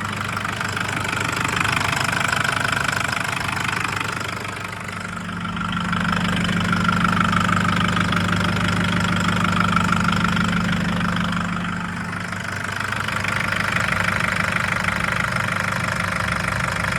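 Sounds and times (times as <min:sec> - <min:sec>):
diesel engine knocking clatter: 0:00.0 - 0:16.9.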